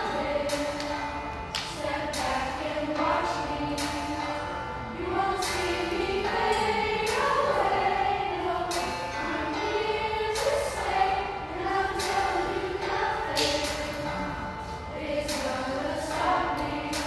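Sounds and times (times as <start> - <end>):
youth choir singing: 0.0 - 17.0.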